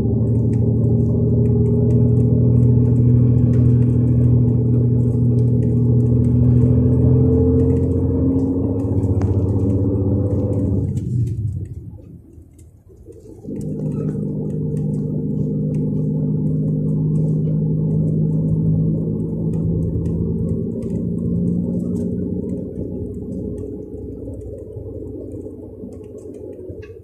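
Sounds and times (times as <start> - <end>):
diesel bus engine under load: 0.0 - 27.0.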